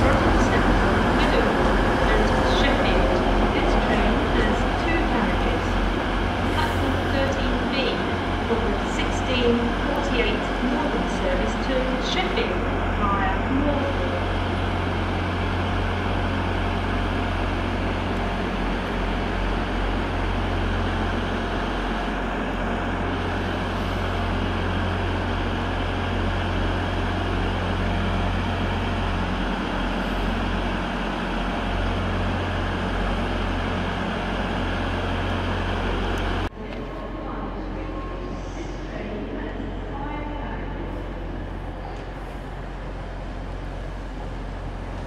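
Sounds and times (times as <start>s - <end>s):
train moving over points: 0.0s - 40.0s.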